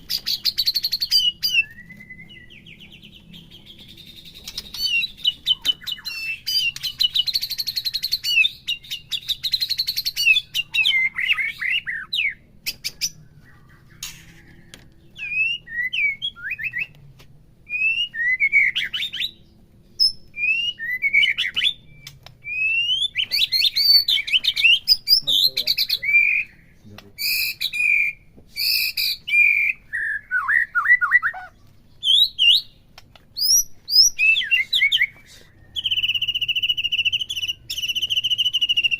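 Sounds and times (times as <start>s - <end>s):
bird singing whistled phrases: 0.1s - 14.6s, 15.2s - 16.9s, 17.7s - 19.4s, 20.0s - 32.8s, 33.4s - 38.9s.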